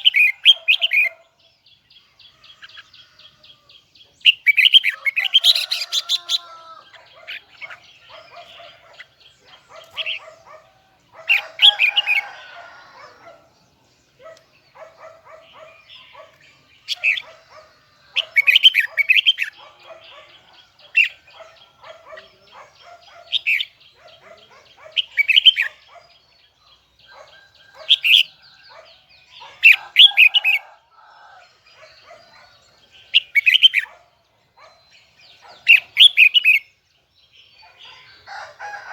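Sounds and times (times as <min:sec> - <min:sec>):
other birds chirping: 0:00.0 - 0:38.9.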